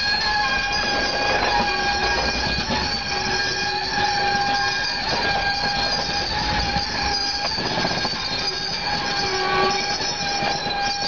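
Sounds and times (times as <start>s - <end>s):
high-pitched wheel squeal: 0.0s - 11.0s
railcar wheels clattering on rails: 0.0s - 11.0s.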